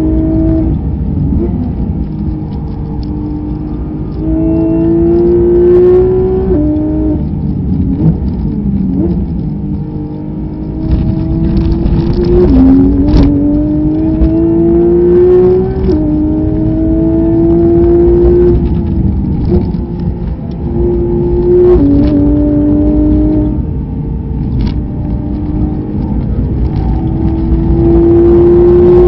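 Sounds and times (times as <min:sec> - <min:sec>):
race car engine at full throttle: 0:00.0 - 0:29.0
road and wind rumble: 0:00.0 - 0:29.0.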